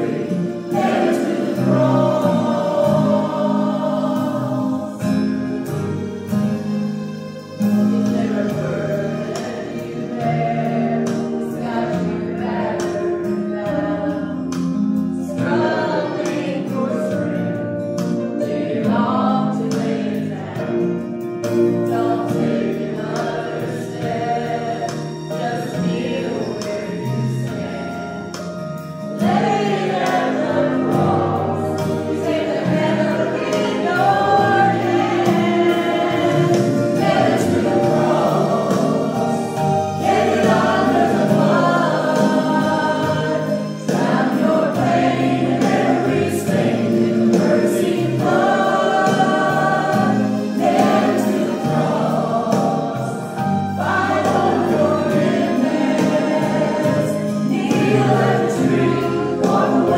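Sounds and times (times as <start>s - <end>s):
choir singing a hymn: 0.0s - 59.9s
musical accompaniment: 0.0s - 59.9s.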